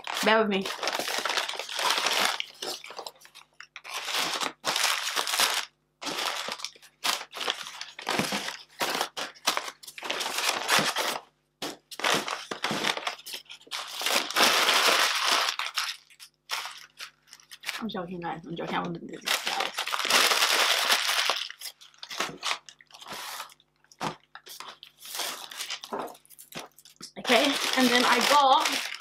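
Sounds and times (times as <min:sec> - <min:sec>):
paper bags rustling and crinkling: 0:00.0 - 0:17.8, 0:18.6 - 0:29.0.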